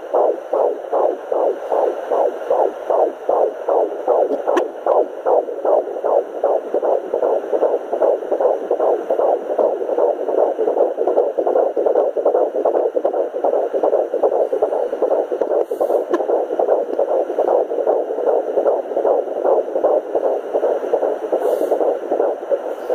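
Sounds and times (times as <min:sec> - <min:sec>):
fetal heartbeat on doppler: 0:00.0 - 0:22.9.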